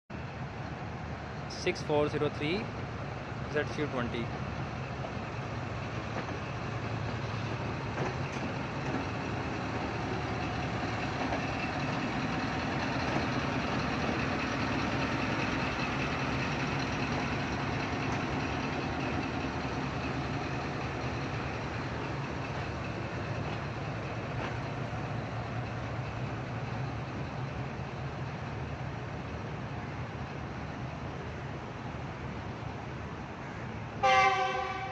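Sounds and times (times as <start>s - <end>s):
locomotive engine humming: 0.1s - 34.9s.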